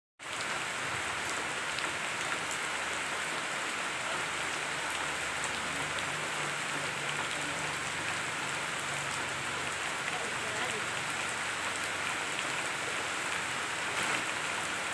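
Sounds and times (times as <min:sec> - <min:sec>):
rain on leaves: 0:00.2 - 0:14.9.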